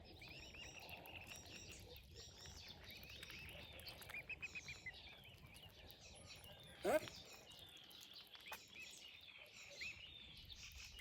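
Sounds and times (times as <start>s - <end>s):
bird chirps and peeps: 0.0s - 11.0s
outdoor background noise: 0.0s - 11.0s.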